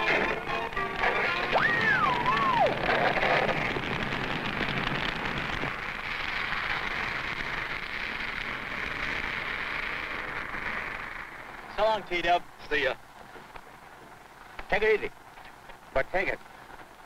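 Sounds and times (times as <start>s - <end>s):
car driving along a road: 0.0s - 17.0s.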